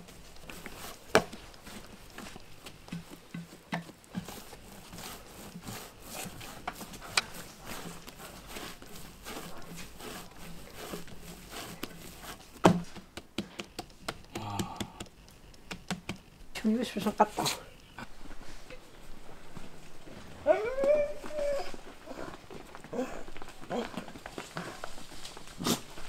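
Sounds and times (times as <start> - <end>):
hands kneading dough: 0.0 - 26.0.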